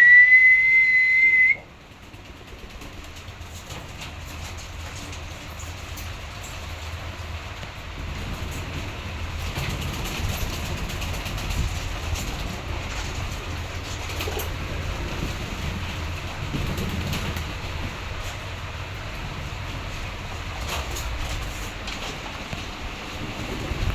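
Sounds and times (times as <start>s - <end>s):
steady low rumble: 4.7s - 23.9s.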